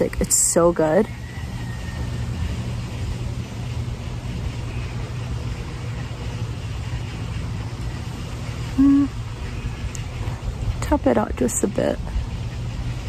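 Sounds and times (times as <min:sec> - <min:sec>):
low outdoor rumble and hum: 0:00.0 - 0:13.0.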